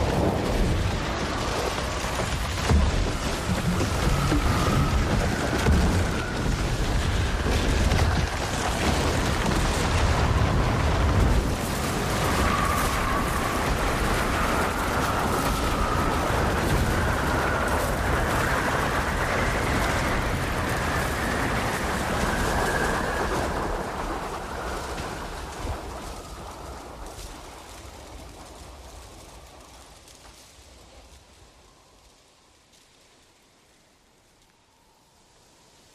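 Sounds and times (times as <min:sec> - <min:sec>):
avalanche rushing rumble: 0:00.0 - 0:35.9.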